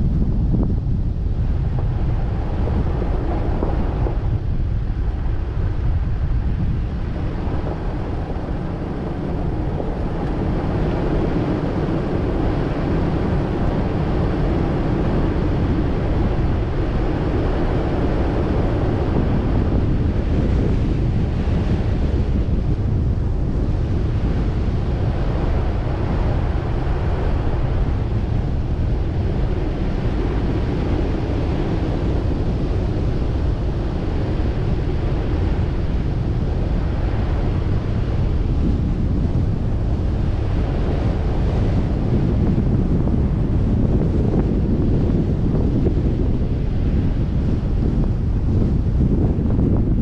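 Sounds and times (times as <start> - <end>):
vehicle driving on dirt road: 0.0 - 50.0
wind buffeting microphone: 0.0 - 50.0.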